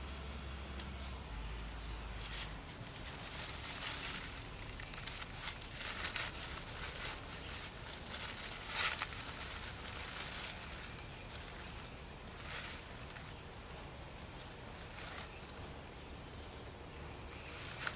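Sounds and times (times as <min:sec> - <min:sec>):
cat rustling through dry leaves: 0:01.8 - 0:17.9.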